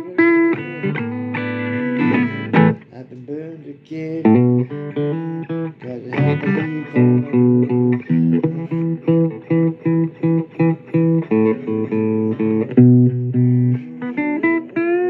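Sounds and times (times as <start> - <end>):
plucked guitar riff: 0.0 - 3.2, 4.1 - 15.0.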